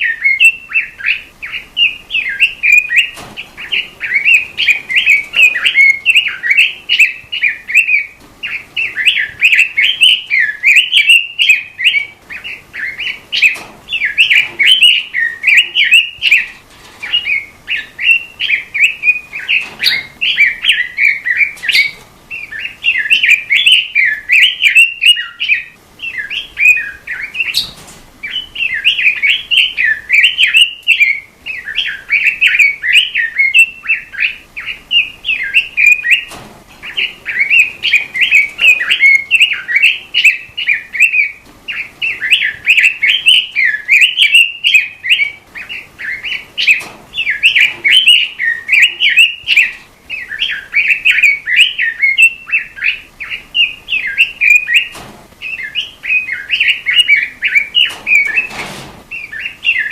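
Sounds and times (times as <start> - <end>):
robin singing: 0.0 - 59.9.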